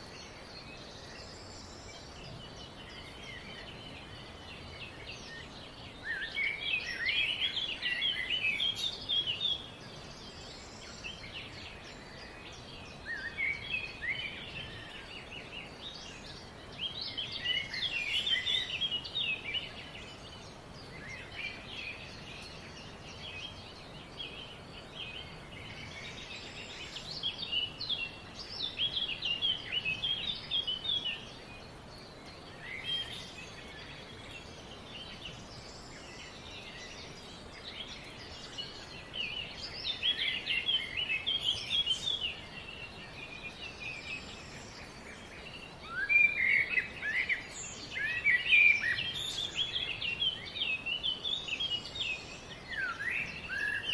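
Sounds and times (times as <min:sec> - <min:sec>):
faint background hiss: 0:00.0 - 0:53.9
songbirds chirping and trilling: 0:00.0 - 0:53.9.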